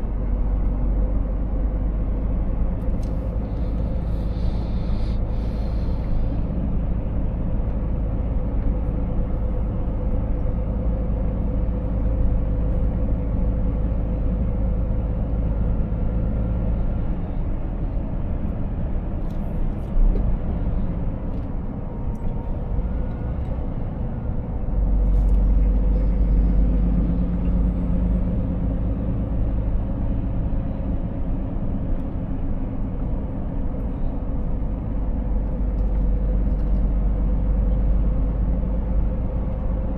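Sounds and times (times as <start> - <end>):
diesel truck engine rumble: 0.0 - 39.9
road noise: 0.0 - 39.9.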